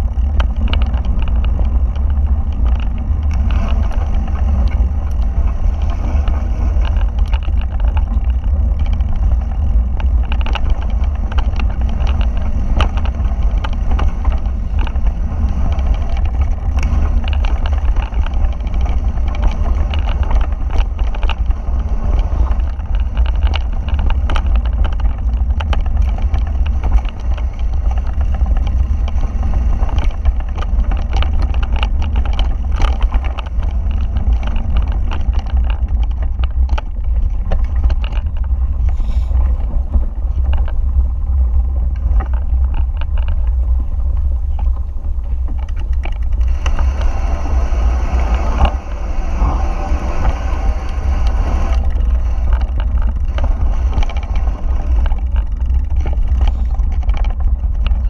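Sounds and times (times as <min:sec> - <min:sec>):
bike rattling on loose stones: 0:00.0 - 0:58.0
wind rumbling on microphone: 0:00.0 - 0:58.0.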